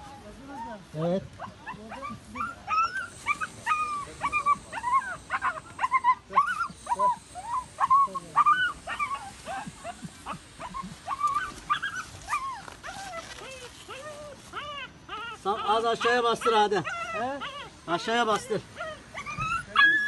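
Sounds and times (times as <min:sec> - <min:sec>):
puppy whimpering yelps: 0:01.4 - 0:20.0.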